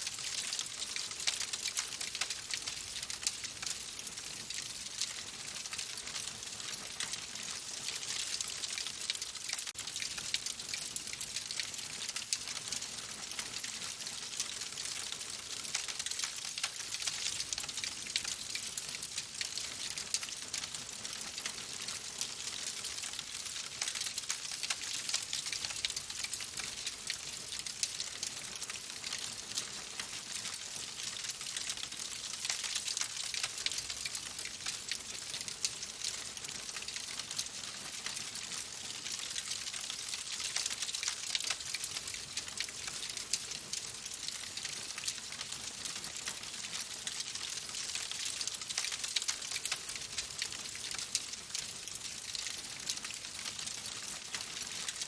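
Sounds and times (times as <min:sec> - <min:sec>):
wood fire crackling: 0:00.2 - 0:53.2.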